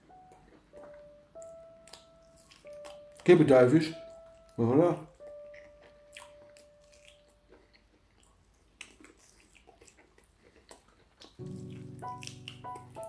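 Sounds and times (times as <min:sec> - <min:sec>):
person chewing food: 0:00.1 - 0:03.4, 0:04.0 - 0:13.0.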